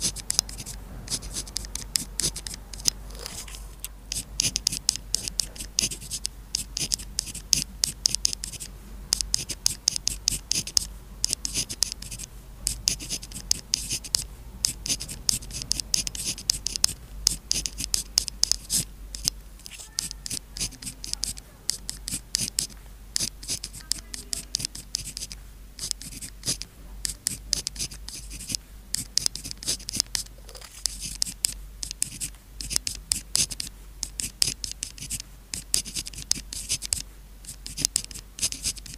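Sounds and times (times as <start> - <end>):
pen scratching on paper: 0.0 - 38.9.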